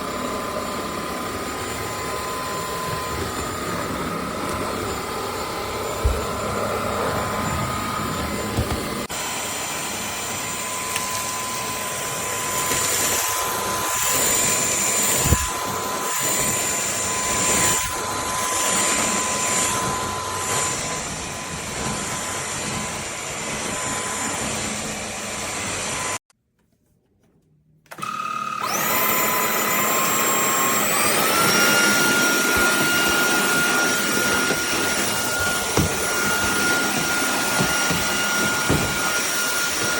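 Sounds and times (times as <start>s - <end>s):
vacuum motor whine: 0.0s - 26.2s, 27.9s - 39.9s.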